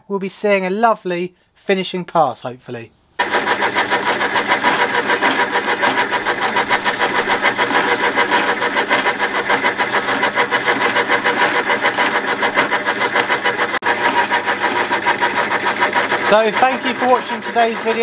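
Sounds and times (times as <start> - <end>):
lathe gears clattering: 3.2 - 18.0.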